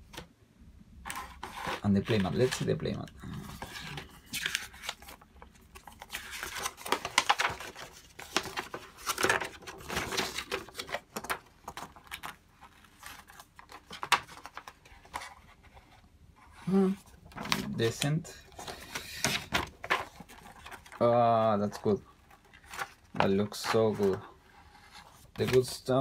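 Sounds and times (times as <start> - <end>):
plastic and paper crinkling: 1.0 - 16.0, 17.0 - 26.0.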